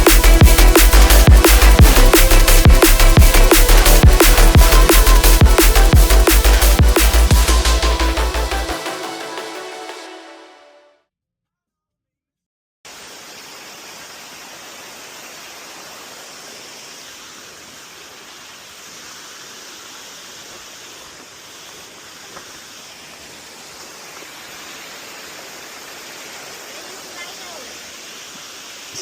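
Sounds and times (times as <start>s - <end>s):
rushing water: 0.0s - 10.6s, 12.9s - 29.0s.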